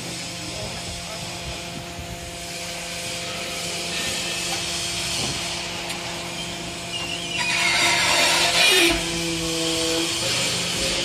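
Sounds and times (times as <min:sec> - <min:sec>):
hydraulic hiss: 0:00.0 - 0:11.0
hydraulic motor and pump hum: 0:00.0 - 0:11.0.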